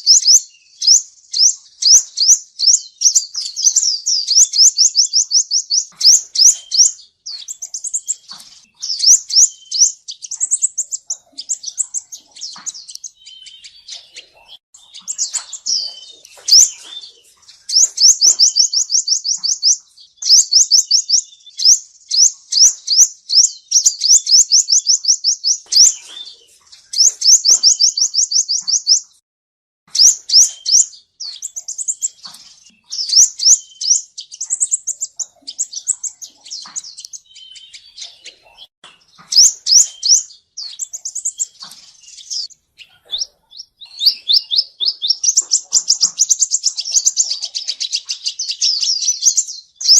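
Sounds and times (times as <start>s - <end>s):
sunbird singing fast trills: 0.0s - 29.2s, 29.9s - 49.9s.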